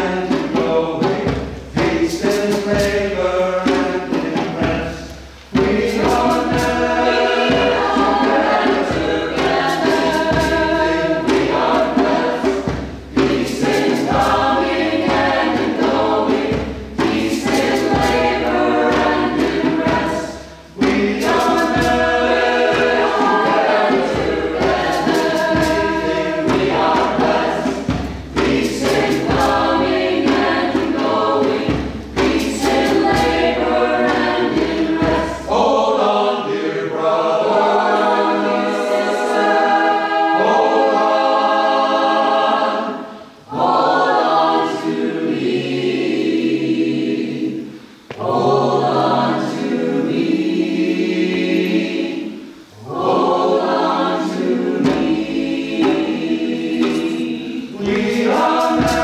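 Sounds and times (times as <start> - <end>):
mixed choir singing in harmony: 0.0 - 59.0.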